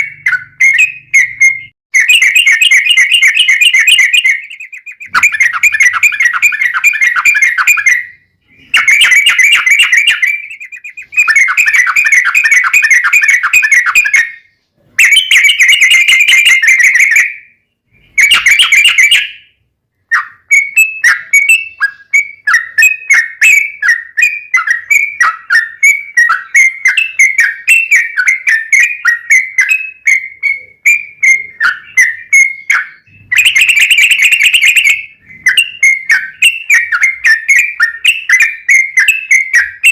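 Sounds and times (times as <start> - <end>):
bird chattering trill: 0.0 - 14.4, 18.1 - 19.4, 20.1 - 39.9
bird chirping notes: 0.0 - 39.9.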